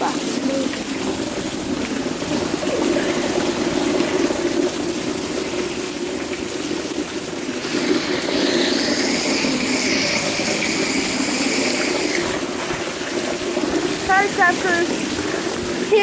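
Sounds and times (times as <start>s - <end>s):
heavy rain pouring: 0.0s - 16.0s
water running and splashing: 0.0s - 16.0s.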